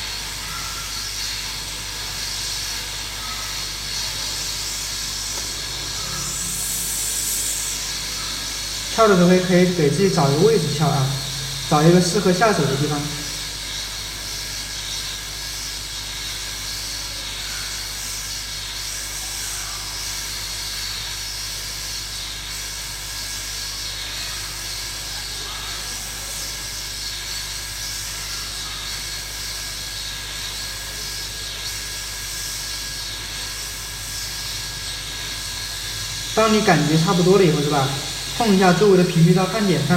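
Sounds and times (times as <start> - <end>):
hot-air gun hissing: 0.0 - 39.9.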